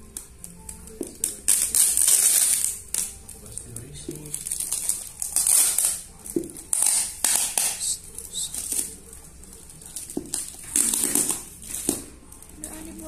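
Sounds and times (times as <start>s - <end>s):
packing tape being peeled: 0.0s - 13.0s
paper wrapping rustling: 0.0s - 13.0s.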